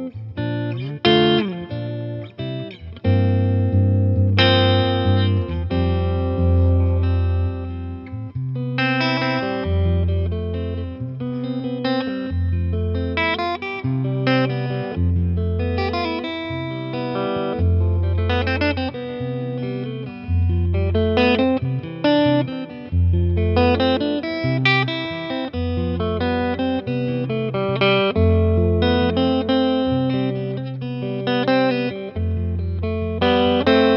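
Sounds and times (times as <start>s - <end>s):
electric guitar playing: 0.0s - 33.9s.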